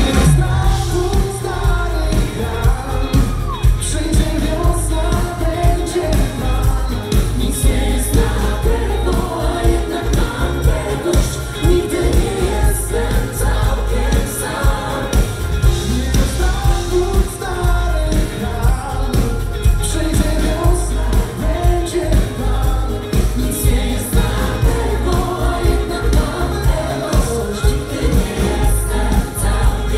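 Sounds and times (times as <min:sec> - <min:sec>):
backing choir singing: 0:00.0 - 0:29.9
lead vocalist singing: 0:00.0 - 0:29.9
live pop-gospel band: 0:00.0 - 0:29.9.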